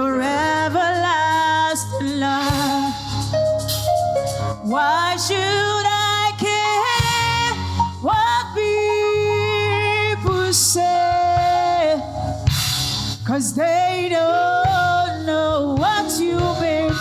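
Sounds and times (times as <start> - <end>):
keyboard and band accompaniment: 0.0 - 17.0.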